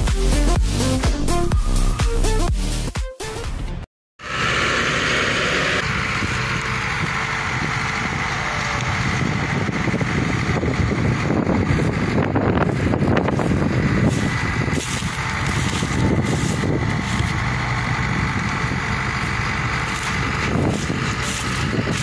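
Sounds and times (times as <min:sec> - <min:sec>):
truck engines running: 0:04.2 - 0:22.0.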